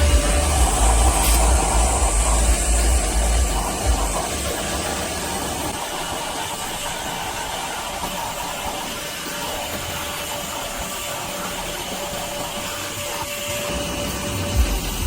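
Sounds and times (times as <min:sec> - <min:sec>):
shop vacuum running: 0:00.0 - 0:15.0.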